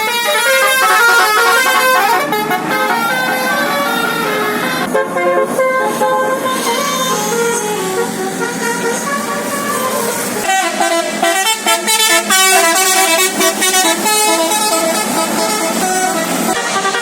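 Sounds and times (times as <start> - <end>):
musical bus horn: 0.0 - 17.0.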